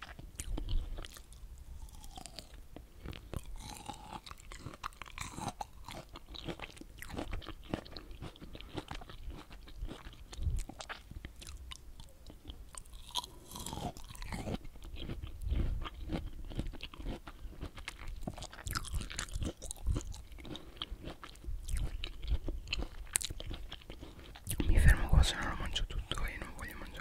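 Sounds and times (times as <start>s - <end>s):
fruit being chewed crunching: 0.0s - 27.0s.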